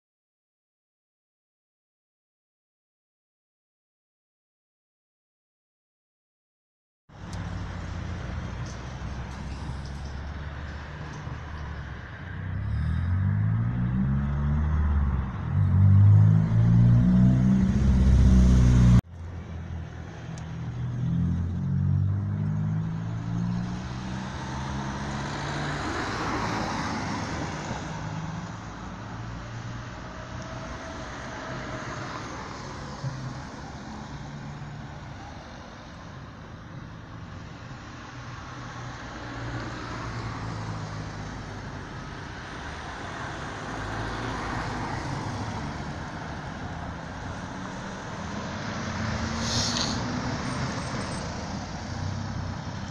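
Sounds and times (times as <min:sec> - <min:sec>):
cars passing: 0:07.1 - 0:52.9.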